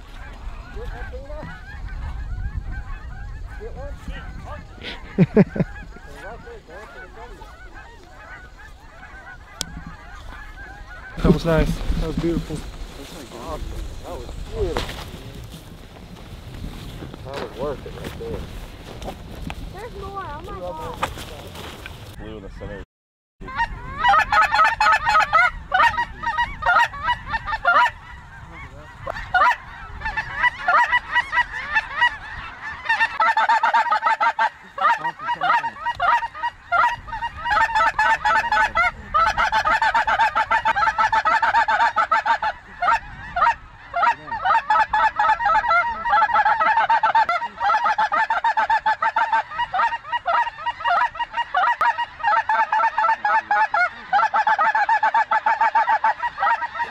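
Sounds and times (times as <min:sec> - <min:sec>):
flock of geese honking: 0:00.0 - 0:22.8, 0:23.4 - 0:56.9.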